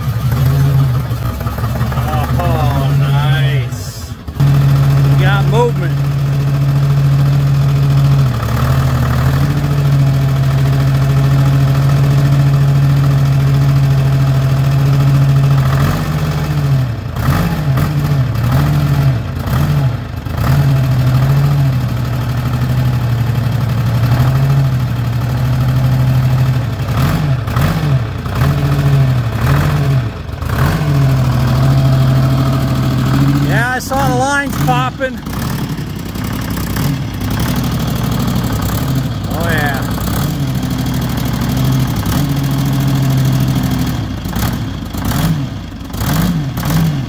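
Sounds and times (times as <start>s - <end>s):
backhoe engine running: 0.0s - 47.0s.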